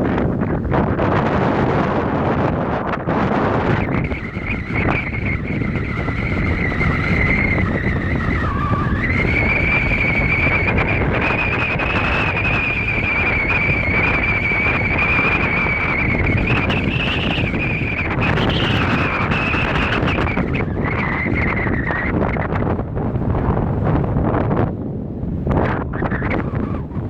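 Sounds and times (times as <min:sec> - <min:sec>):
wind rushing over microphone: 0:00.0 - 0:27.0
high whistling whine: 0:00.5 - 0:23.0, 0:25.6 - 0:27.0.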